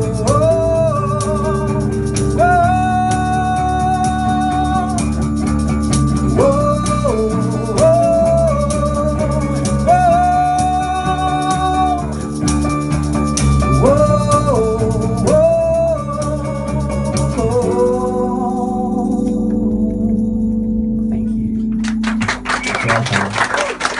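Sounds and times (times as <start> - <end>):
acoustic guitar: 0.0 - 23.3
acoustic rock band playing: 0.0 - 23.9.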